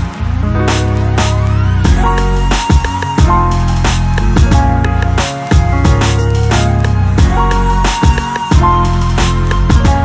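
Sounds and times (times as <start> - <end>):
deep bass: 0.0 - 10.0
held synth notes: 0.0 - 10.0
steady drum beat: 1.9 - 10.0.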